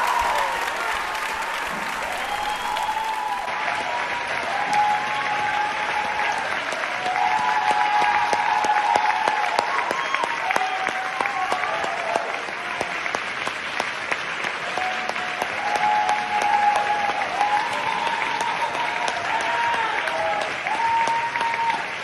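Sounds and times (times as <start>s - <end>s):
drawn-out cheers: 0.0s - 13.2s, 14.6s - 22.0s
audience clapping: 0.0s - 22.0s.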